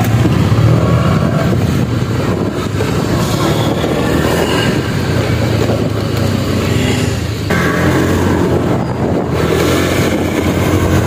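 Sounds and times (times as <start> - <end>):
road and wind noise: 0.0 - 11.0
scooter engine running: 0.0 - 11.0.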